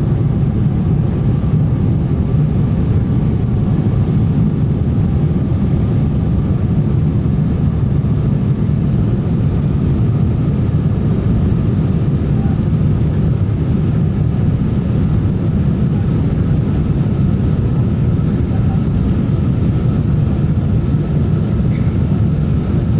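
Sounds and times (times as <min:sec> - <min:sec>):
airliner engine rumble: 0:00.0 - 0:22.9.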